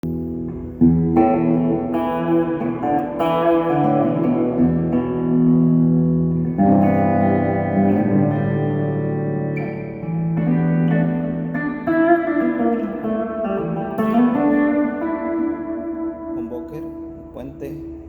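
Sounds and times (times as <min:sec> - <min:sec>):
clean electric guitar: 0:00.0 - 0:18.0.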